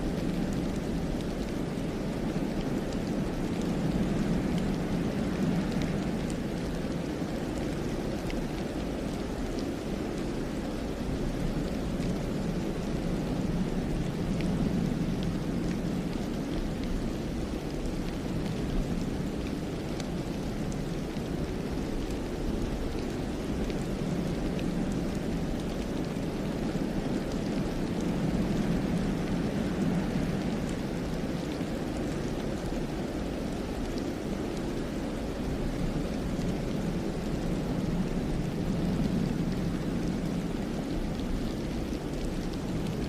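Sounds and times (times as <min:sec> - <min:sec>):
faint light ticks: 0:00.0 - 0:43.0
wind through pine forest: 0:00.0 - 0:43.0.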